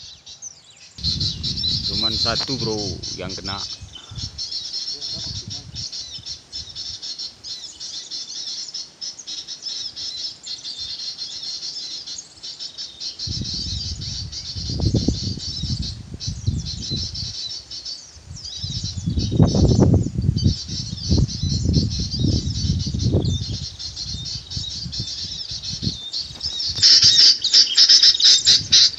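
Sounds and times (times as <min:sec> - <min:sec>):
songbirds chirping and twittering: 0:00.0 - 0:28.9.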